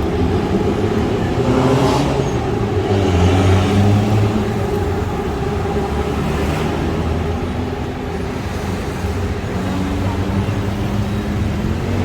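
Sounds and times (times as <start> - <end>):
road traffic: 0.0 - 12.0
vehicle engine accelerating: 0.0 - 12.0.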